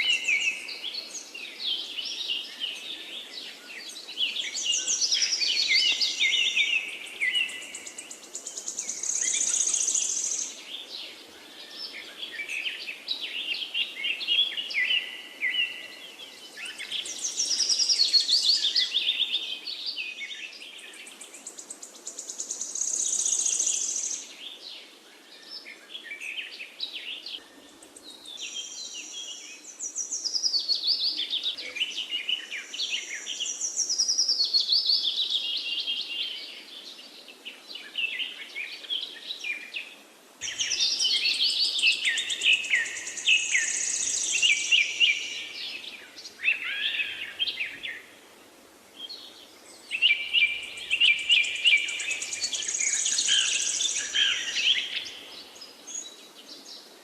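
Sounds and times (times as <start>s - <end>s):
songbirds trilling: 0.0s - 56.9s
faint steady hiss: 0.0s - 57.0s.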